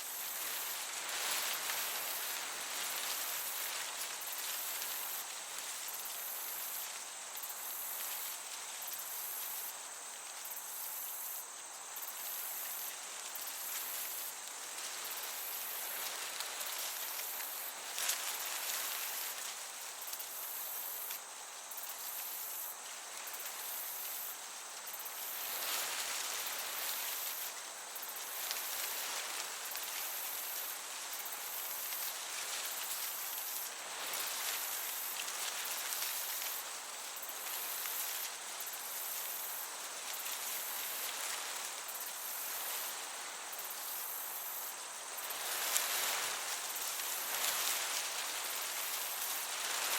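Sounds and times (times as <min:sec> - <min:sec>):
breeze hissing: 0:00.0 - 0:49.9
crickets chirping: 0:00.0 - 0:49.9.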